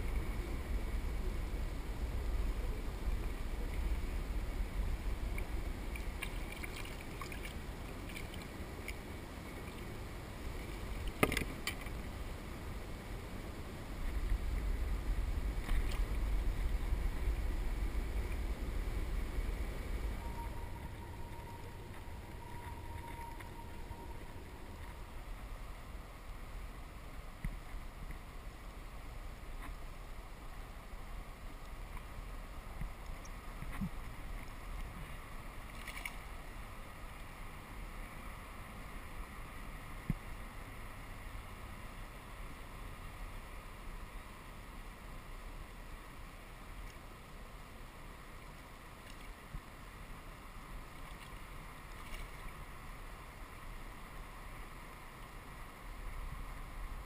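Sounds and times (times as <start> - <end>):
river water washing around kayak: 0.0 - 57.0.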